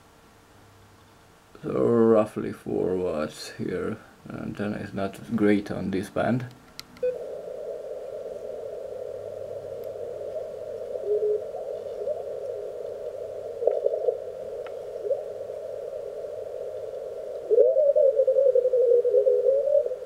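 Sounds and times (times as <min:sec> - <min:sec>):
radio band hiss: 0:01.6 - 0:17.8.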